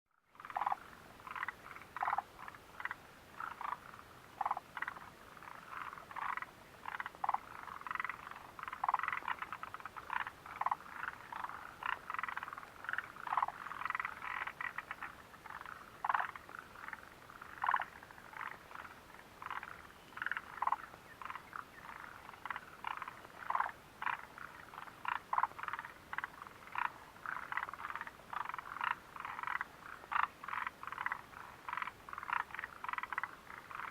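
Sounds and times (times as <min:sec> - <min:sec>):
chorus of frogs croaking: 0:00.1 - 0:33.9.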